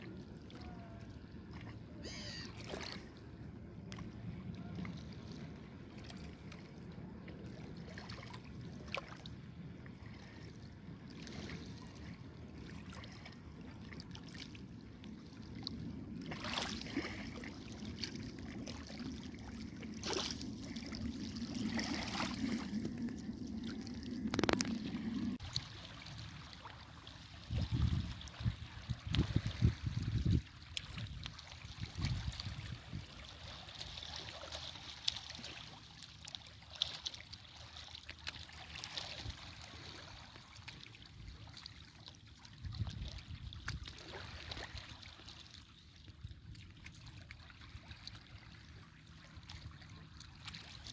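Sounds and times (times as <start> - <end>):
water moving and splashing: 0.0 - 50.9.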